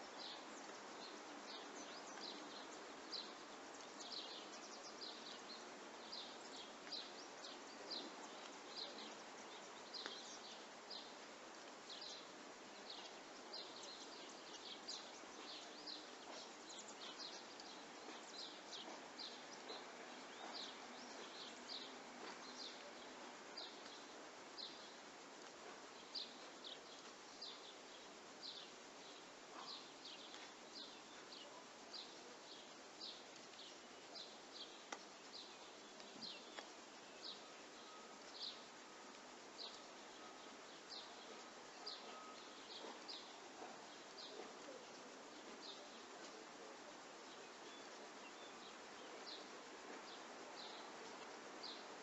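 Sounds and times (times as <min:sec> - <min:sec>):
faint outdoor hiss: 0:00.0 - 0:52.0.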